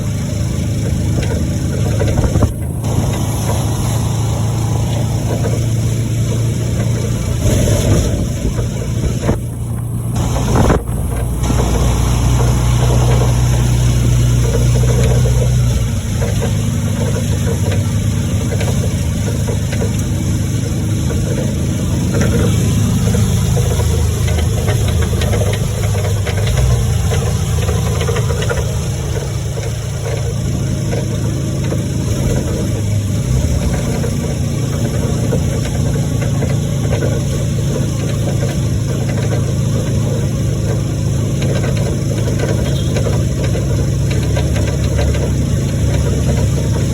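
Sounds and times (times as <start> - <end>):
constant hiss: 0.0 - 46.9
vehicle engine running: 0.0 - 46.9.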